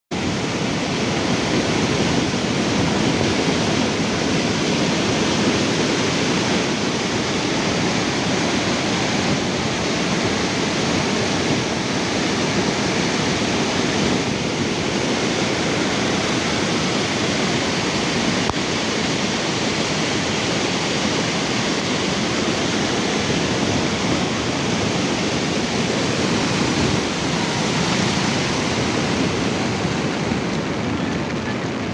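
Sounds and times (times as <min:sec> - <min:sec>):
floodwater rushing: 0:00.1 - 0:31.9.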